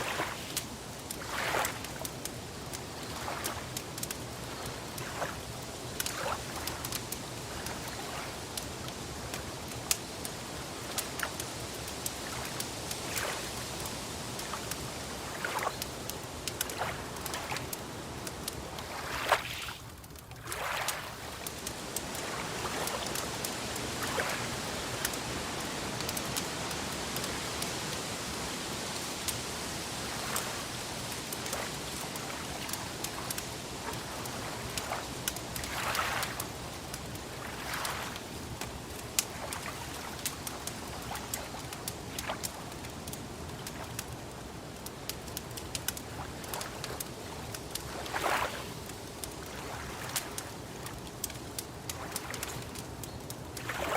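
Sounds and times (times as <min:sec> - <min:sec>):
water lapping: 0:00.0 - 0:44.2, 0:45.1 - 0:53.9
wood fire crackling: 0:00.0 - 0:53.8.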